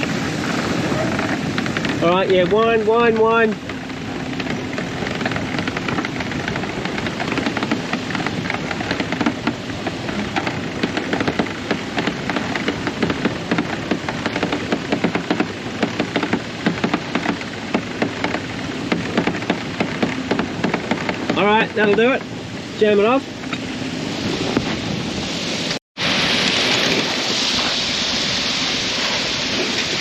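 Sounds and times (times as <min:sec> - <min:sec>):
boat motor droning: 0:00.0 - 0:30.0
sail crackling and flapping: 0:00.0 - 0:30.0.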